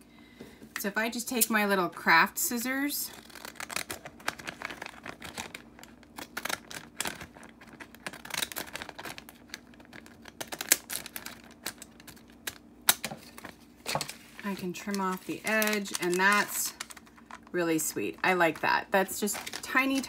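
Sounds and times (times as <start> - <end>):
paper crinkling: 3.1 - 20.0.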